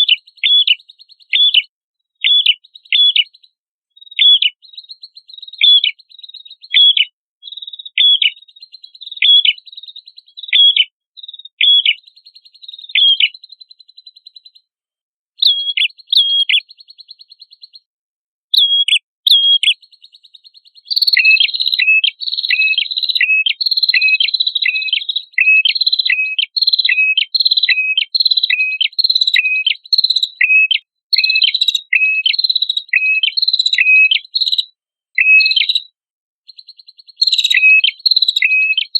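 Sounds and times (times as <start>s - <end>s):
songbird chirping and trilling: 0.0s - 14.7s, 15.4s - 17.9s, 18.5s - 35.9s, 36.5s - 38.9s.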